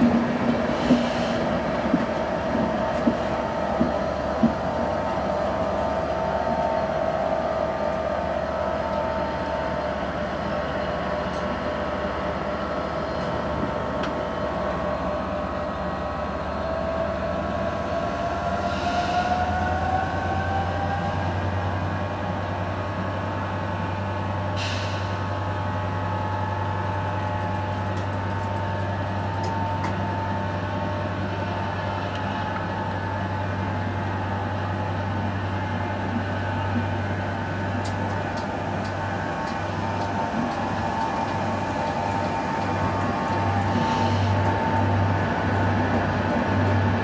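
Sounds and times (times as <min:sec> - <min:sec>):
diesel locomotive drone: 0:00.0 - 0:47.0.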